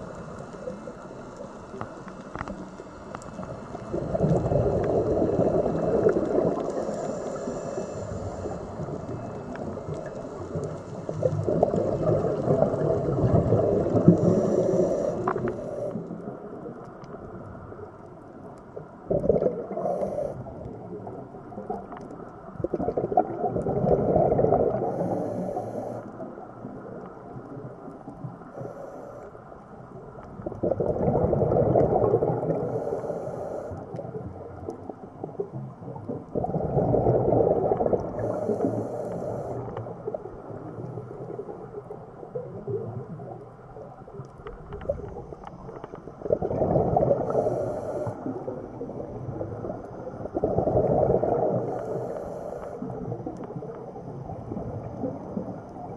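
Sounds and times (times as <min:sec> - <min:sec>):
regulator bubbles underwater: 0:00.0 - 0:55.9
steady underwater wash: 0:00.0 - 0:55.9.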